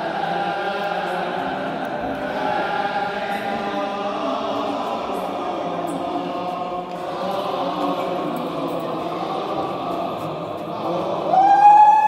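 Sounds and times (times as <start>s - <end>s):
voices chanting a hymn: 0.0s - 12.0s.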